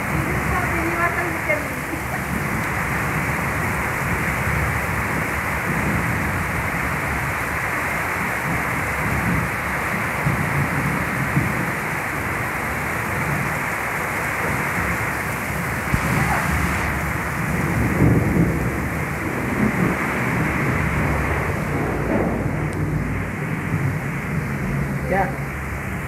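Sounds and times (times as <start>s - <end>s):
heavy rain on leaves and puddle: 0.0s - 26.0s.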